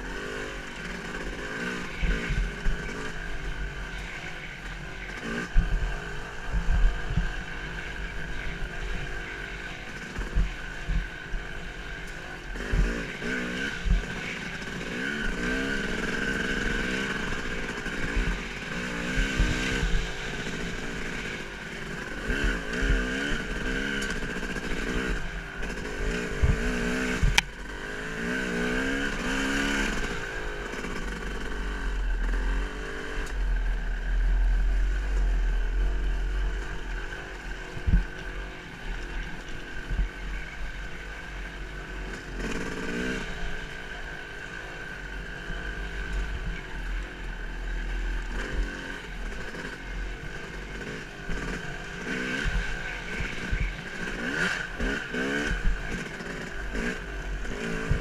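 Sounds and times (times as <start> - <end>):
pitched engine drone: 0.0 - 58.0.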